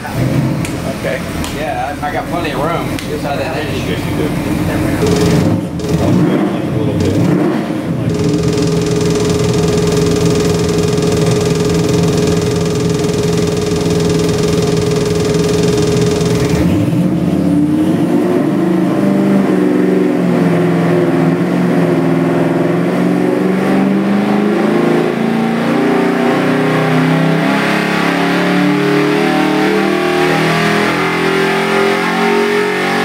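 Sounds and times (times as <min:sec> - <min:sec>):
engine revving under load: 0:04.5 - 0:33.0.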